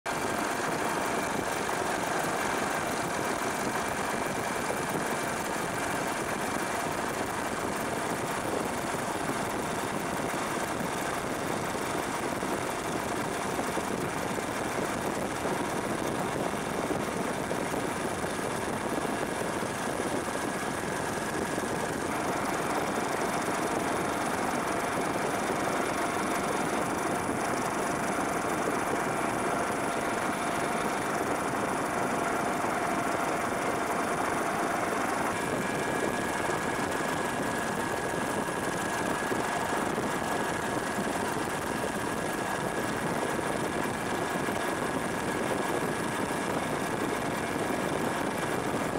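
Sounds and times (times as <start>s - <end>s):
helicopter engine and rotor: 0.1s - 48.9s.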